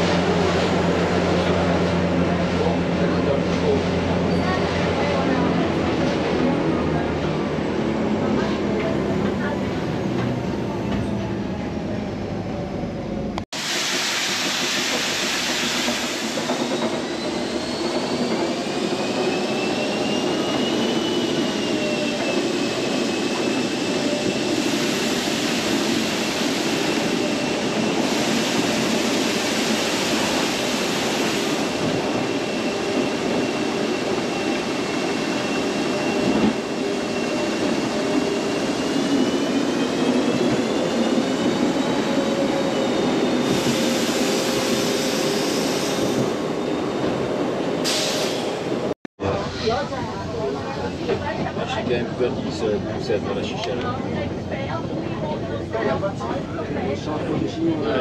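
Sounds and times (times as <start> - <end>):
train rumble of wheels: 0.0 - 58.0.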